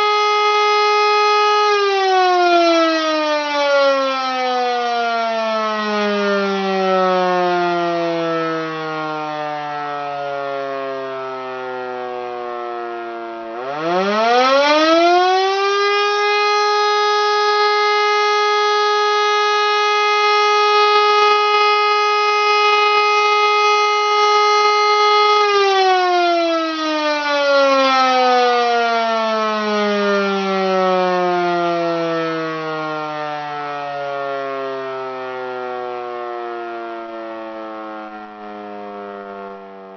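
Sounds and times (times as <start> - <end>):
motor siren wailing: 0.0 - 39.9.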